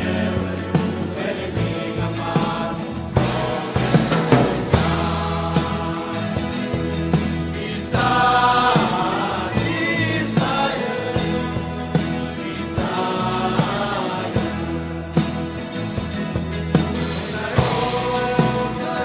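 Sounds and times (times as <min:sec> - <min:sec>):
choir singing a hymn: 0:00.0 - 0:19.0
percussive beats: 0:00.0 - 0:19.0
sustained bass line: 0:00.0 - 0:19.0.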